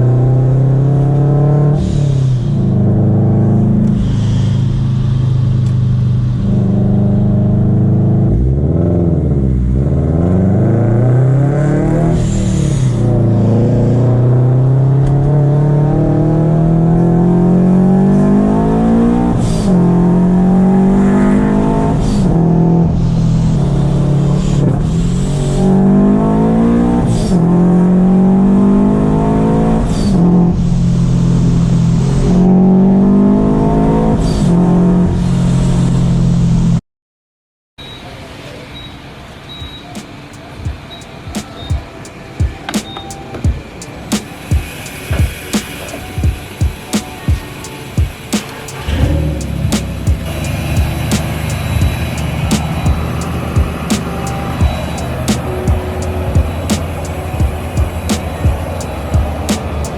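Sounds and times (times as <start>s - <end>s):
car engine revving: 0.0s - 36.8s, 42.8s - 59.9s.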